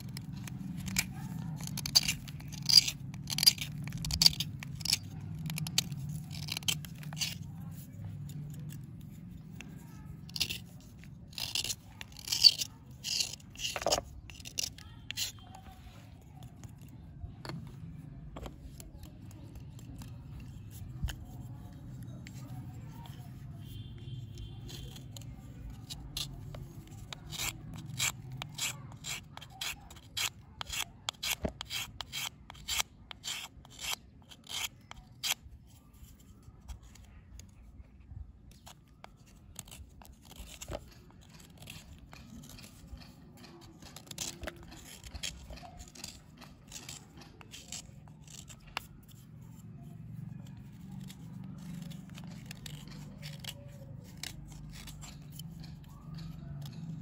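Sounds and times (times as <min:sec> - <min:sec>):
blade scraping a dry bar: 0:00.0 - 0:17.0, 0:18.5 - 0:37.6, 0:38.4 - 0:57.0.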